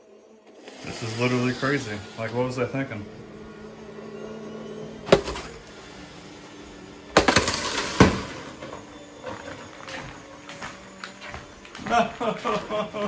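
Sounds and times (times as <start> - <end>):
robot vacuum humming: 0.0 - 13.0.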